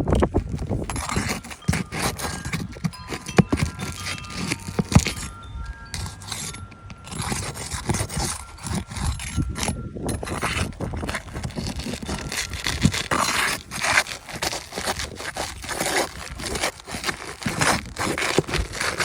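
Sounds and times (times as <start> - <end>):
shingles scraping and rustling: 0.0 - 19.0
small knocks: 0.0 - 19.0.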